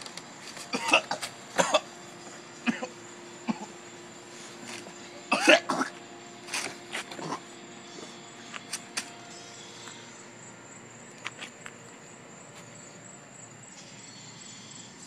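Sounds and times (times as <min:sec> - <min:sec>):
faint high whine: 0:00.0 - 0:15.0
steady hiss: 0:00.0 - 0:15.0.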